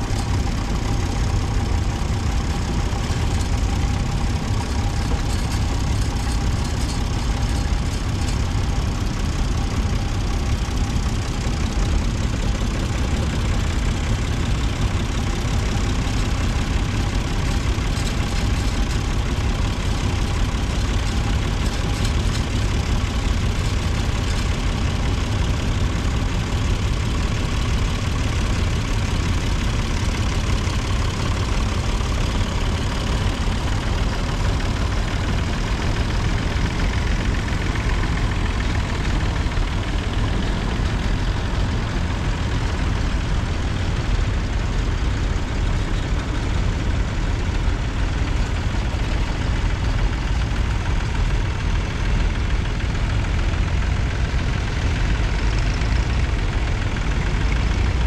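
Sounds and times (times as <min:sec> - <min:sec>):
tractor engines driving past: 0:00.0 - 0:58.0.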